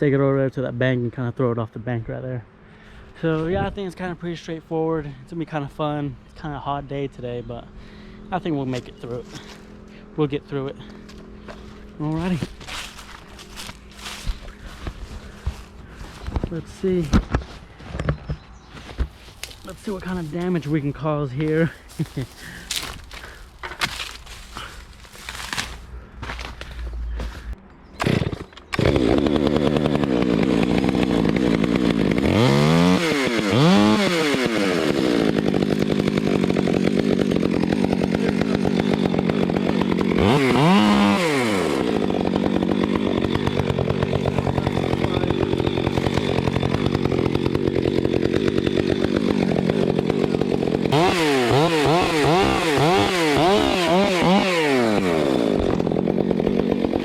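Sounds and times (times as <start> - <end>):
chainsaw starting and running: 7.6 - 17.6, 19.2 - 57.0.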